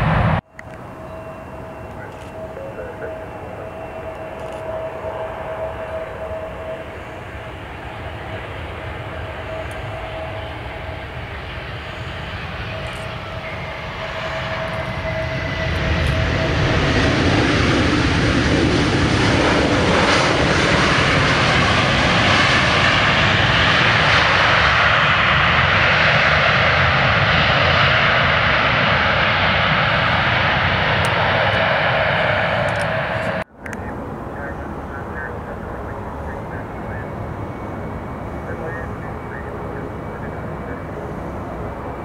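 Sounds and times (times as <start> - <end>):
jet engine whine: 0.0 - 42.0
jet reverse thrust roar: 0.0 - 42.0.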